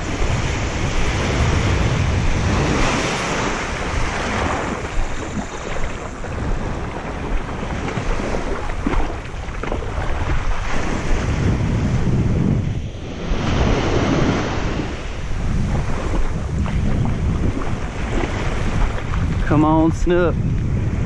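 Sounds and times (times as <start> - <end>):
small surf waves washing up: 0.0 - 21.0
wind buffeting microphone: 0.0 - 21.0.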